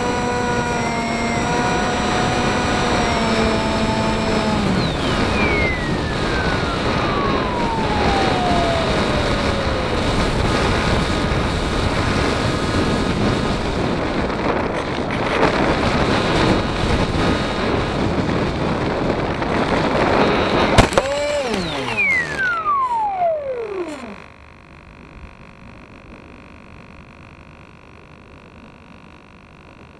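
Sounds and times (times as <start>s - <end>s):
motor whine falling in pitch: 0.0s - 29.9s.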